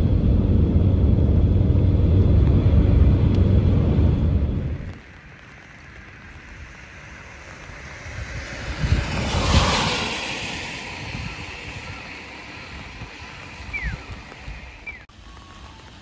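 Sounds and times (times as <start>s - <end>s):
vehicle passing on wet road: 0.0s - 16.0s.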